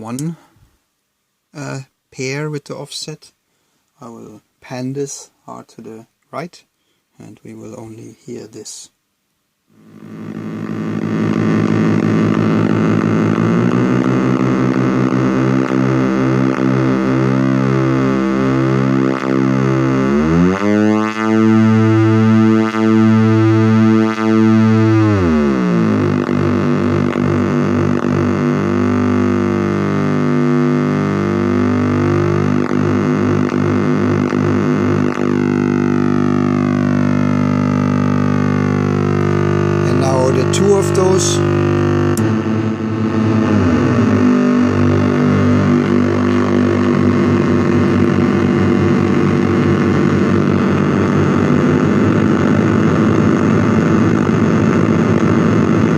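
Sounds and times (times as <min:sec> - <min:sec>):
buzzing synthesizer drone: 0:09.7 - 0:55.9.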